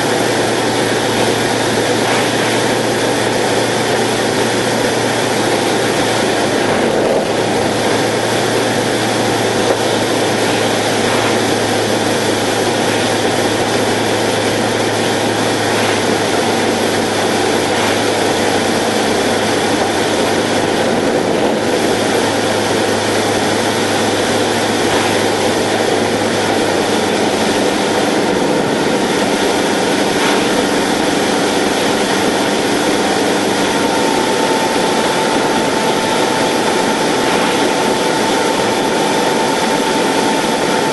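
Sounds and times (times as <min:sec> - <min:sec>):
light aircraft engine drone: 0:00.0 - 0:40.9.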